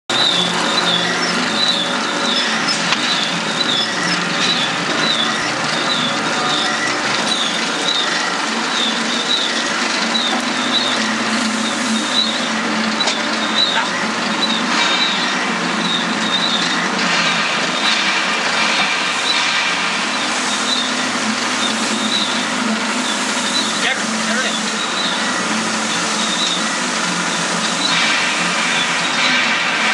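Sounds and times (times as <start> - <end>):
machine motor and gearbox running: 0.1 - 29.9.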